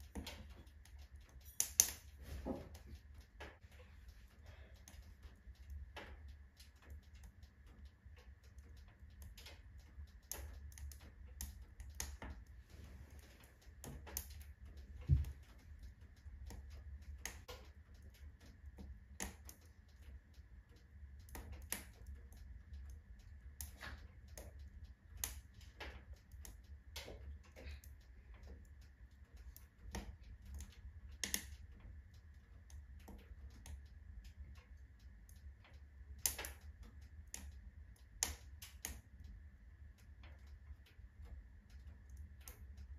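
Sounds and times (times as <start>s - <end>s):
firewood crackling and popping: 0.0s - 42.9s
low fire rumble: 0.0s - 42.9s.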